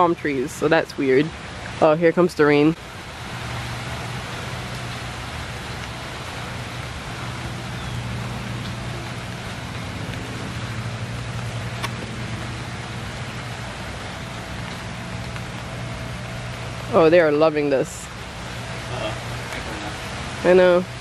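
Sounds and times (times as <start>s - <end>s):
low steady hum: 0.0s - 21.0s
rain falling through trees: 0.0s - 21.0s.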